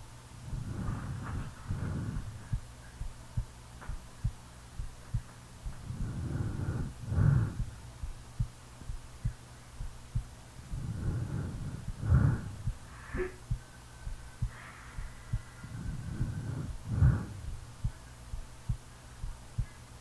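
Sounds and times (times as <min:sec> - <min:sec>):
steady low hum: 0:00.0 - 0:20.0
heartbeat thumps: 0:00.4 - 0:19.8.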